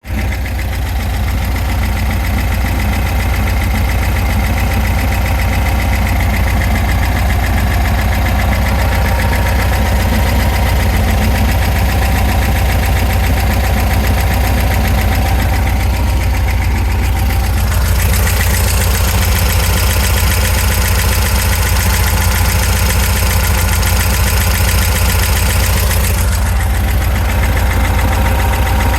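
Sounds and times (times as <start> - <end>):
car engine idling: 0.0 - 28.9
engine knock: 0.0 - 28.9.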